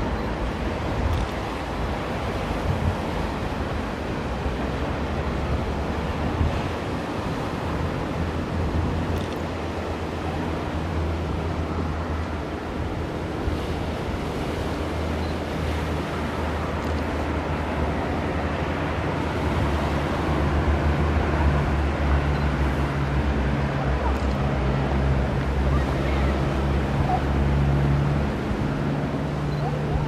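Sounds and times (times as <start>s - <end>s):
sea surf: 0.0s - 30.0s
wind on microphone: 0.0s - 30.0s.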